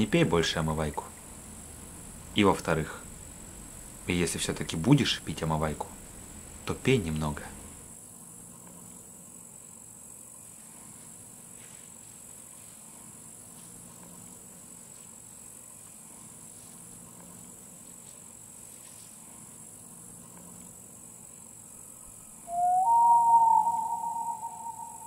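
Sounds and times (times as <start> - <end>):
insect chorus chirring: 0.0 - 25.0.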